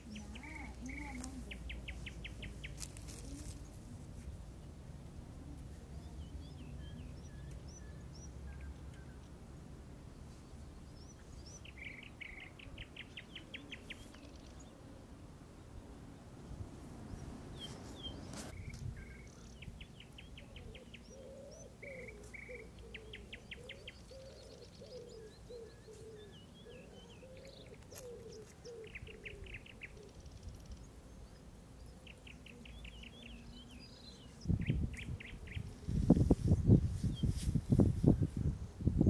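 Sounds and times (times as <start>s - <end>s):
birds trilling and chirping: 0.0s - 3.9s, 5.6s - 15.0s, 17.0s - 38.4s.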